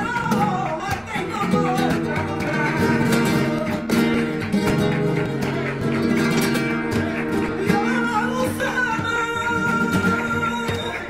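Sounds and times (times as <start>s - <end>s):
flamenco guitars playing: 0.0s - 11.0s.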